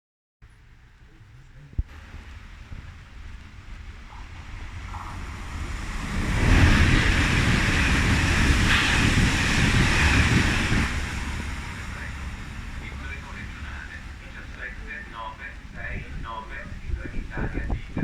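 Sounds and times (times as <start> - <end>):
train passing: 0.4 - 18.0.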